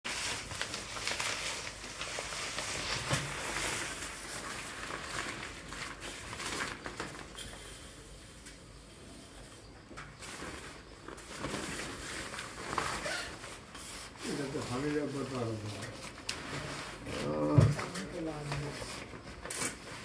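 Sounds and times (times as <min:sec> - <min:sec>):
plastic cover rustling: 0:00.0 - 0:08.8, 0:09.8 - 0:20.0.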